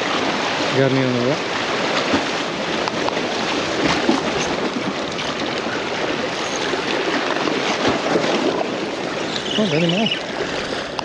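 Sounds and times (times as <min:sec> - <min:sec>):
seawater splashing against rocks: 0:00.0 - 0:11.0.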